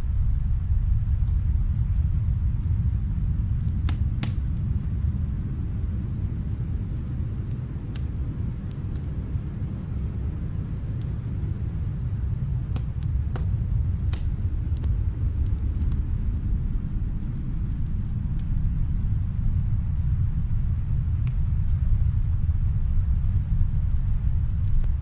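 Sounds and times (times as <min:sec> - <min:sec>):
fire pops and snaps: 0:00.0 - 0:25.0
low rumble: 0:00.0 - 0:25.0
wood fire crackling: 0:00.0 - 0:25.0.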